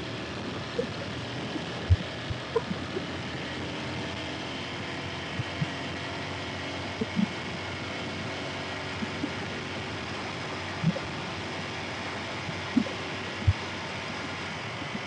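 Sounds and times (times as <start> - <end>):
motorcycle engine hum: 0.0 - 15.0
road noise: 0.0 - 15.0
wind: 0.0 - 15.0.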